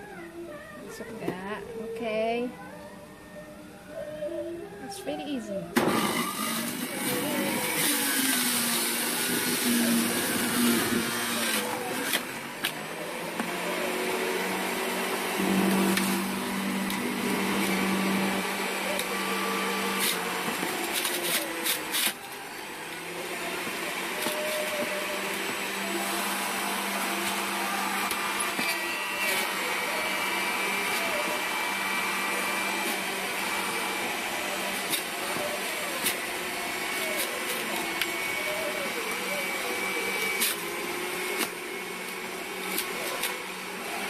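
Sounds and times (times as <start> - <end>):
juicer motor humming: 0.0 - 44.0
vegetables being shredded: 5.8 - 44.0.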